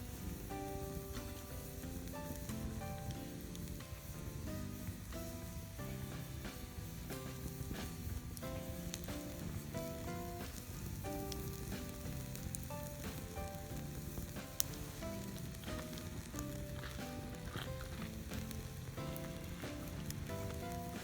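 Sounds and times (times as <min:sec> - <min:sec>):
campfire crackling and popping: 0:00.0 - 0:21.0
soft jazz music: 0:00.0 - 0:21.0.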